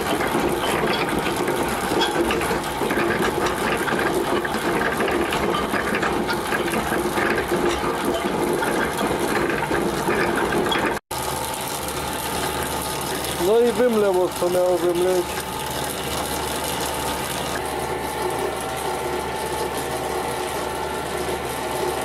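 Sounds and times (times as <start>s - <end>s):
gears meshing with rattle and whir: 0.0s - 22.0s.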